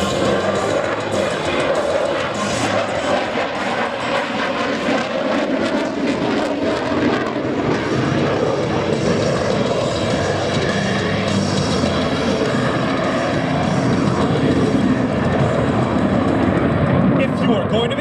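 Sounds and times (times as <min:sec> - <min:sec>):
heavy jet engine roar: 0:00.0 - 0:18.0
thin high jet whine: 0:00.0 - 0:18.0.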